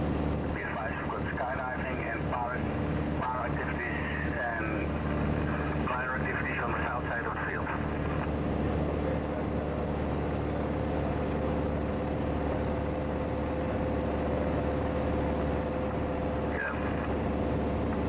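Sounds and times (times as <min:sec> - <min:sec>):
light aircraft engine drone in cabin: 0:00.0 - 0:18.0.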